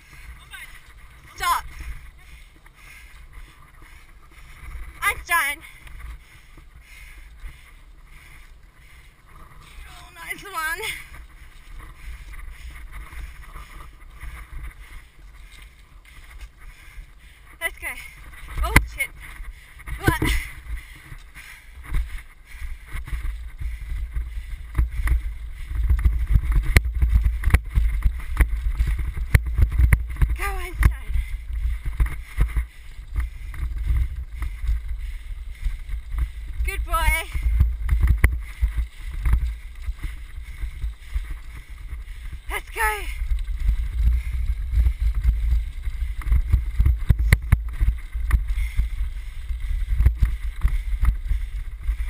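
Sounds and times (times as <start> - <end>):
wheels rolling over rough trail: 0.0 - 52.0
wind buffeting microphone: 0.0 - 52.0.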